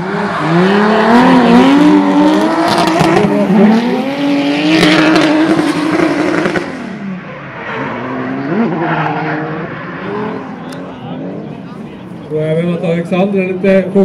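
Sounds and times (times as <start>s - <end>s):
car engines at high revs: 0.0s - 11.8s.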